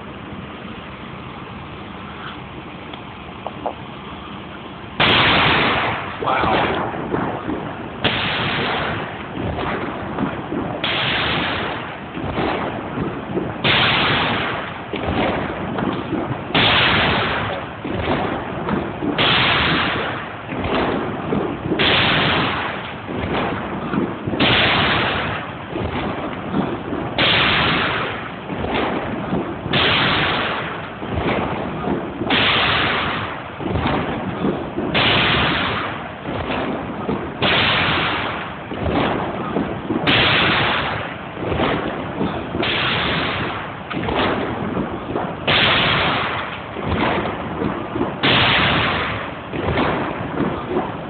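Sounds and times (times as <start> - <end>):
cannon booms: 5.0 - 51.0.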